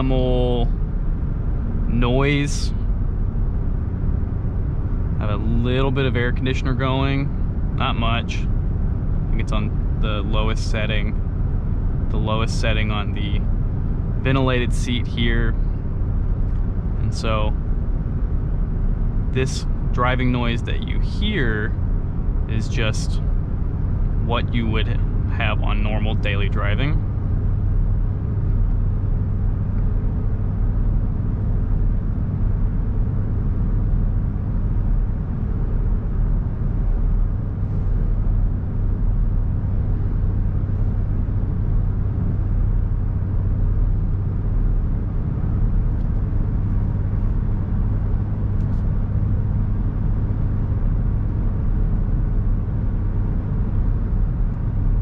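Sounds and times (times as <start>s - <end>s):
air conditioning on low: 0.0s - 55.0s
in-cab road and tyre drone: 0.0s - 55.0s.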